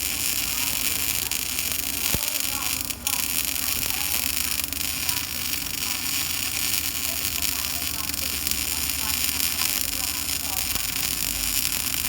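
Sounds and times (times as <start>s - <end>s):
welding machine humming: 0.0s - 12.0s.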